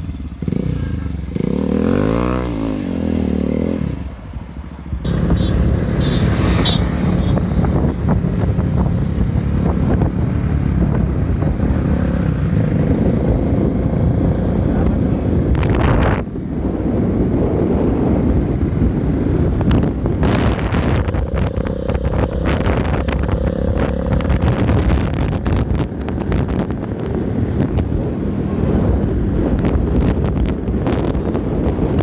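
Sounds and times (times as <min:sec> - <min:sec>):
wind noise on microphone: 0:00.0 - 0:32.0
motorcycle engine running: 0:05.0 - 0:32.0.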